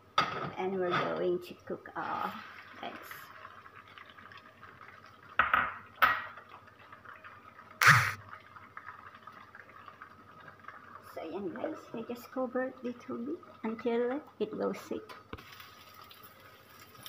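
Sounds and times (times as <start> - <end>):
egg frying in hot oil: 1.5 - 17.0.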